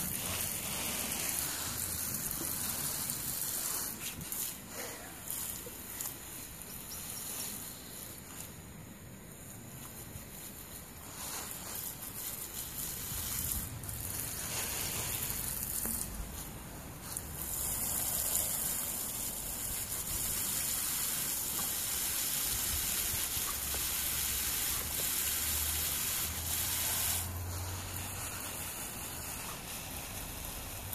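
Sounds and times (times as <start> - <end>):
water spattering on grass: 0.0 - 8.8, 9.4 - 30.9
hose nozzle hissing: 0.0 - 30.9.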